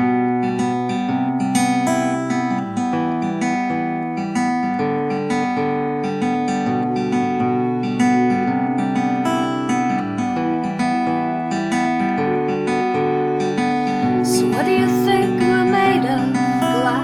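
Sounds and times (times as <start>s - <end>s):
acoustic guitar: 0.0s - 17.0s.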